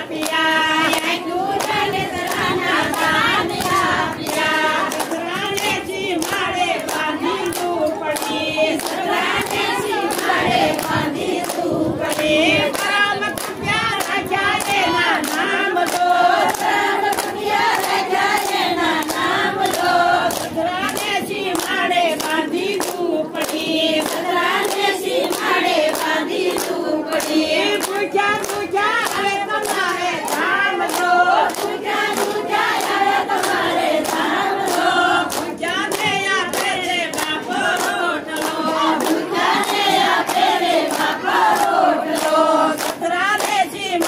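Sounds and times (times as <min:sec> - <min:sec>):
hand claps in rhythm: 0:00.0 - 0:44.0
women singing in chorus: 0:00.0 - 0:44.0.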